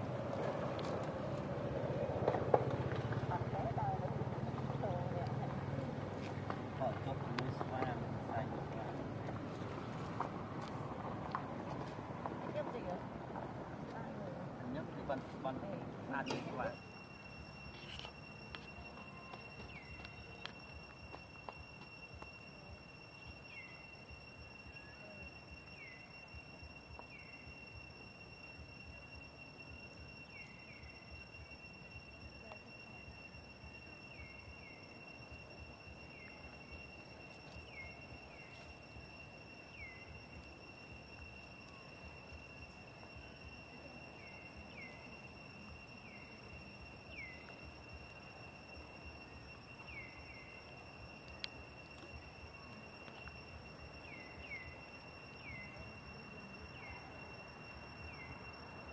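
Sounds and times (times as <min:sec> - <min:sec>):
high-pitched insect drone: 0:00.0 - 0:58.9.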